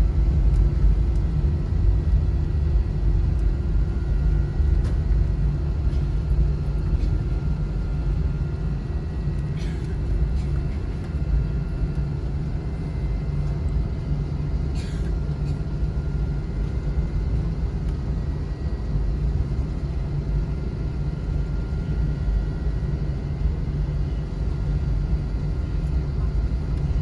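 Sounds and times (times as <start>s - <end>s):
airliner cabin drone: 0.0s - 27.0s.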